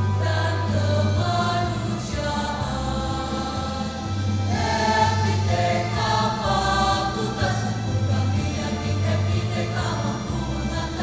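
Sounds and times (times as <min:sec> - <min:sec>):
choir singing in harmony: 0:00.0 - 0:11.0.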